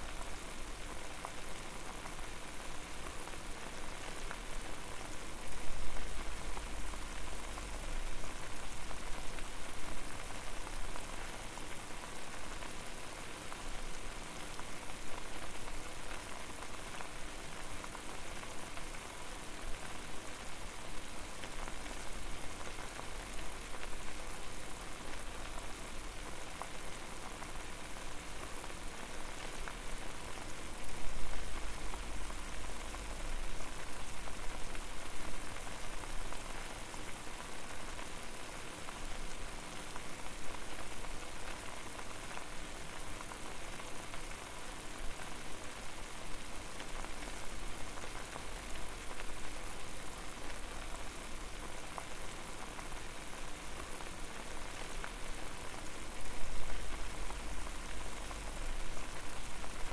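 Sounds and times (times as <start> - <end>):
water boiling hard: 0.2 - 59.9.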